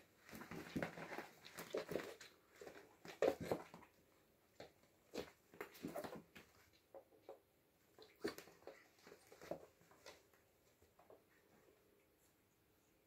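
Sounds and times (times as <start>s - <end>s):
kittens scuffling on a rug: 0.0s - 13.0s.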